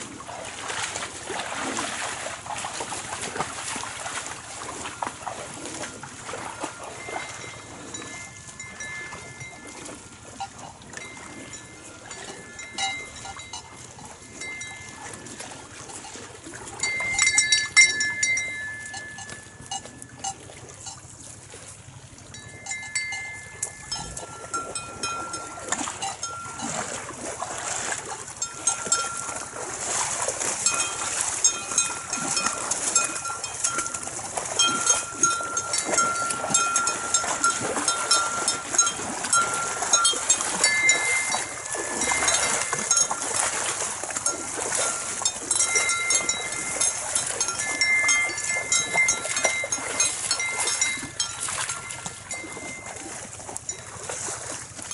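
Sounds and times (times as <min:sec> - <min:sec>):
cattle drinking: 0:00.0 - 0:54.9
water sloshing: 0:00.0 - 0:54.9
high ringing tones: 0:04.8 - 0:21.1, 0:22.3 - 0:27.4, 0:28.4 - 0:54.9.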